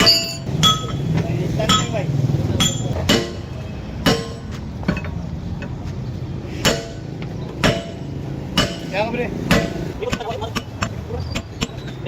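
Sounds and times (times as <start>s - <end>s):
hammer striking metal: 0.0s - 2.0s, 2.6s - 5.2s, 6.6s - 11.8s.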